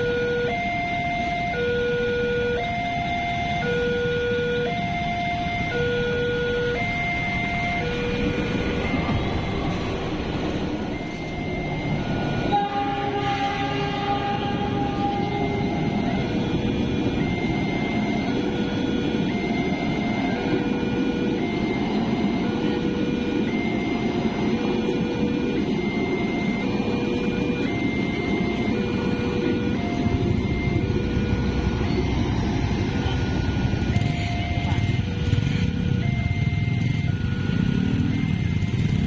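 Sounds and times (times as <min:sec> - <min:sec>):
two-tone electronic warning chime: 0:00.0 - 0:39.0
train rumbling past: 0:07.2 - 0:39.0.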